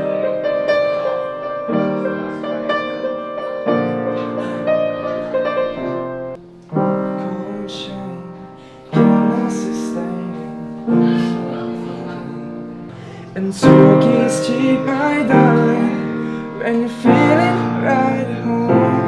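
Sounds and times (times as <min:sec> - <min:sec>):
piano playing slow chords: 0:00.0 - 0:19.0.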